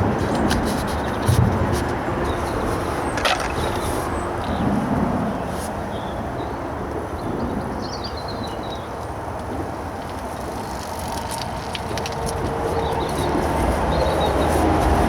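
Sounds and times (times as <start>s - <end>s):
heavy road traffic rumble: 0.0s - 15.0s.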